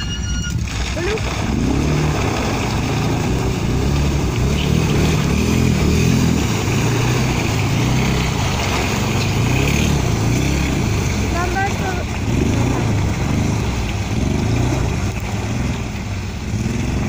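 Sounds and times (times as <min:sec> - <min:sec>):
water splashing and churning: 0:00.0 - 0:17.0
quad bike engine revving: 0:00.5 - 0:17.0.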